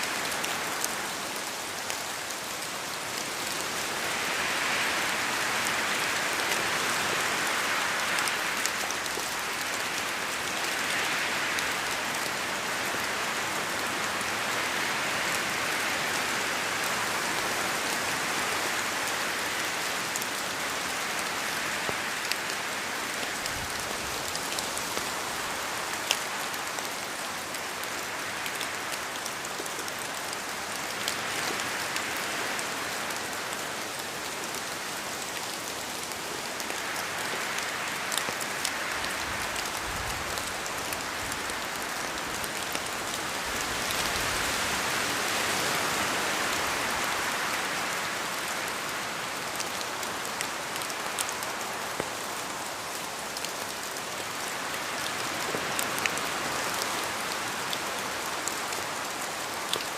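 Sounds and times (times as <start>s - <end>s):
rain falling through trees: 0.0s - 59.9s.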